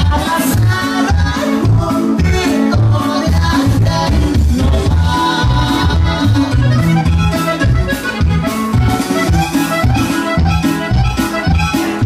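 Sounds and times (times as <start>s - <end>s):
latin dance music with bass beat: 0.0s - 12.0s.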